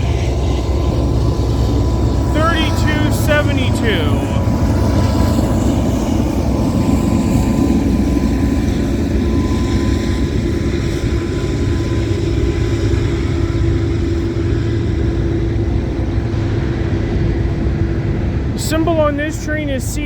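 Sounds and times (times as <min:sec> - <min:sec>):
faint steady whine: 0:00.0 - 0:20.0
freight train wheels rumbling: 0:00.0 - 0:20.0.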